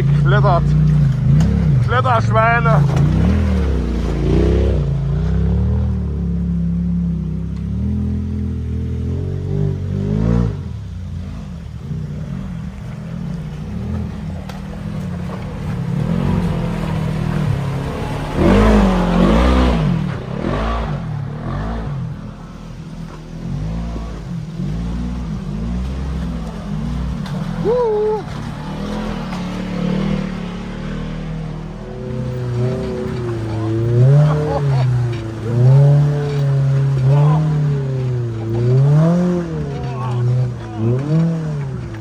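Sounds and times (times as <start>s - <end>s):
off-road vehicle engines revving: 0.0s - 42.0s.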